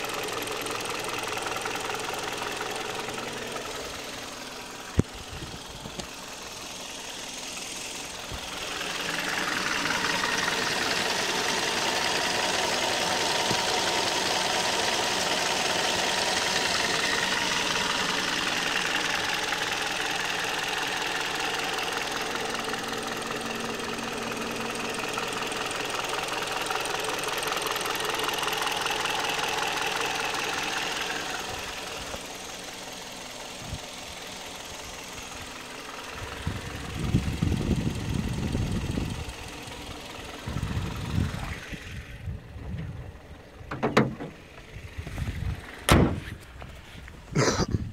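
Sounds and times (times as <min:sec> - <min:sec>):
petrol engine knocking: 0:00.0 - 0:44.9.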